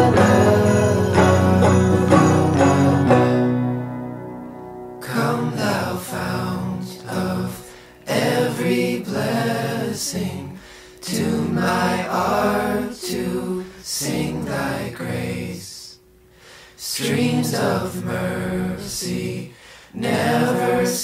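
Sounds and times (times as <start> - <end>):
unaccompanied voices singing a hymn: 0.0 - 3.6, 5.0 - 16.0, 16.6 - 21.0.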